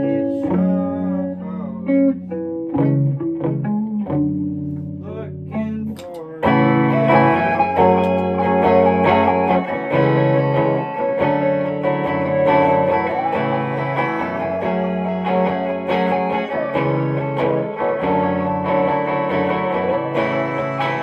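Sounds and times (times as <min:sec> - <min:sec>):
electric guitar playing: 0:00.0 - 0:21.0.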